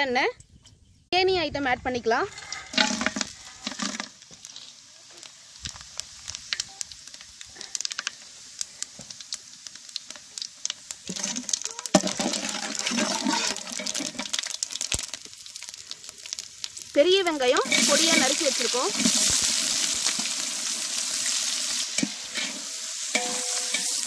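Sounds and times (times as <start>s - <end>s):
spices and nuts crackling in hot oil: 1.6s - 24.0s.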